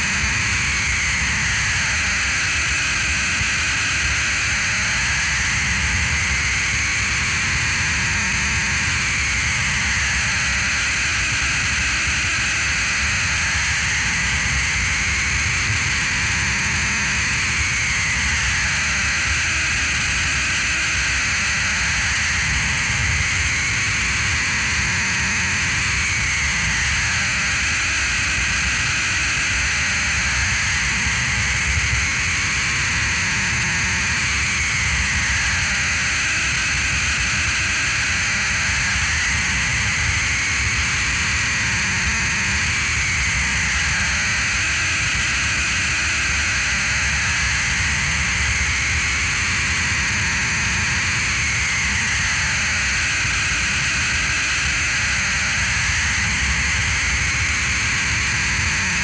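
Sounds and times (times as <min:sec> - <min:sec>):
droning experimental noise: 0:00.0 - 0:59.0.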